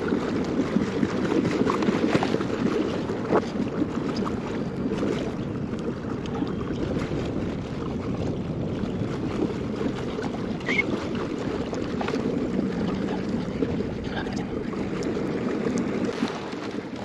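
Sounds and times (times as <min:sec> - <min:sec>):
water around kayak: 0:00.0 - 0:17.0
wind noise on microphone: 0:00.0 - 0:17.0.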